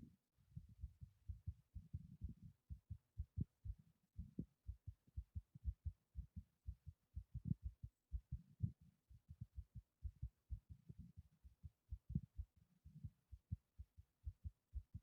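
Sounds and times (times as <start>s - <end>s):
heart beating fast: 0.6s - 15.0s.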